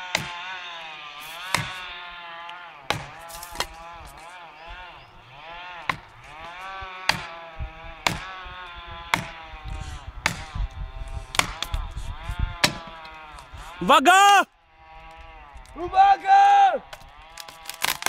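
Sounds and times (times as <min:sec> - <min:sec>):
chainsaw cutting wood: 0:00.0 - 0:13.9, 0:14.7 - 0:15.8, 0:16.8 - 0:18.0.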